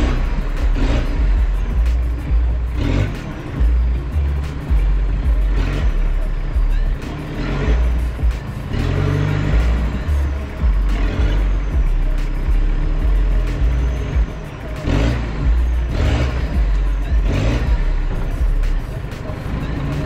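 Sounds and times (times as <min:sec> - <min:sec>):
music with heavy bass beat: 0:00.0 - 0:20.0.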